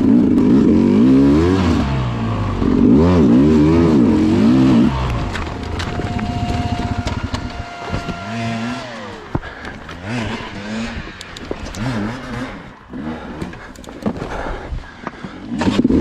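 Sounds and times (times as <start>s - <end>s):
motorcycle engine revving: 0.0s - 14.9s, 15.5s - 16.0s.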